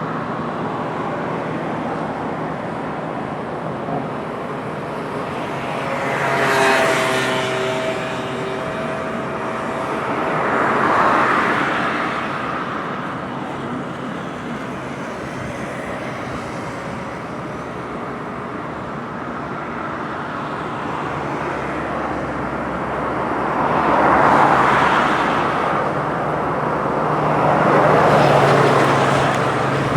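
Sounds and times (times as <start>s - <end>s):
road traffic passing: 0.0s - 29.9s.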